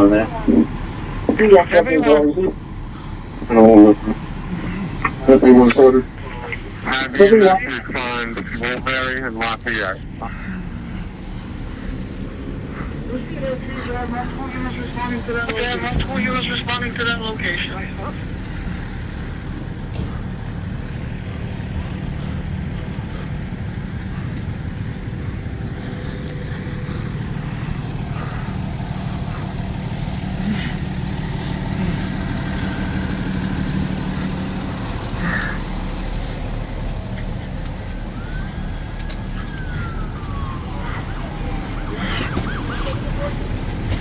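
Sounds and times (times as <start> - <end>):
large vehicle engine running: 0.0 - 44.0
street noise: 0.0 - 44.0
siren wailing: 6.4 - 44.0.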